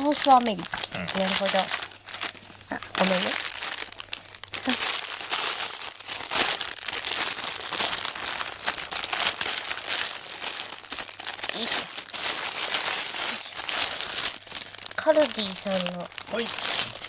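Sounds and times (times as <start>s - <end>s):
cellophane bag crinkling: 0.0s - 17.0s.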